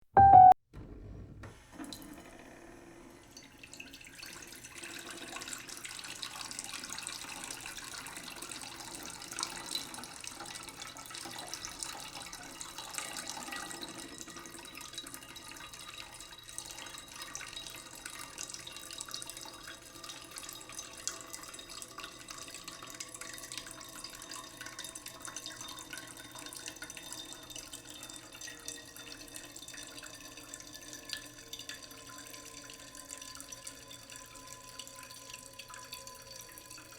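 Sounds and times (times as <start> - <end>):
water running from a tap: 3.4 - 36.9.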